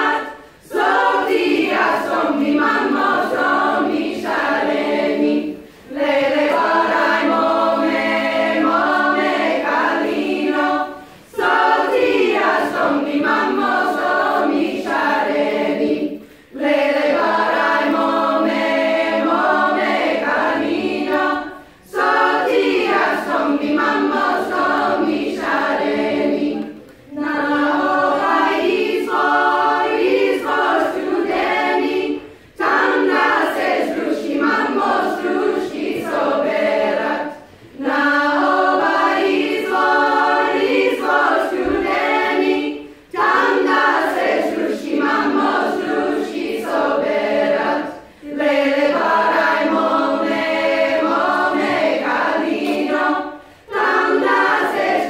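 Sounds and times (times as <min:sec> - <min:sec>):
women's choir singing a cappella: 0:00.0 - 0:55.0.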